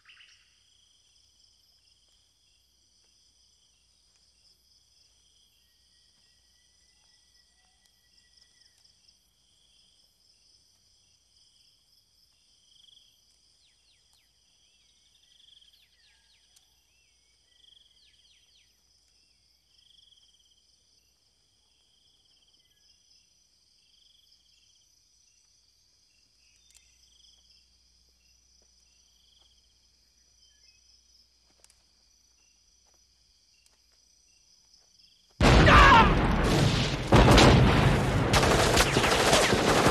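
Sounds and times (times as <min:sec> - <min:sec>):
crickets and insects trilling: 0:00.0 - 0:39.9
pulsing insect chirp: 0:00.0 - 0:39.9.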